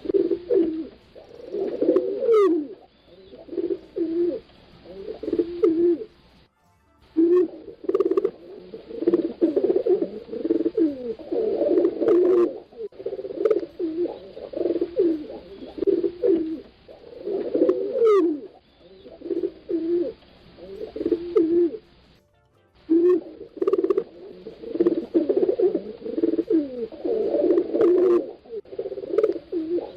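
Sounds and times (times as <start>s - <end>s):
pigeons cooing: 0.0s - 6.2s, 7.2s - 22.0s, 22.9s - 29.9s.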